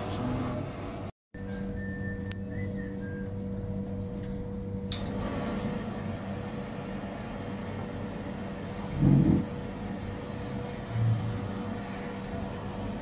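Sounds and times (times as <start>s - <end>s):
ventilation hum: 0.0s - 13.0s.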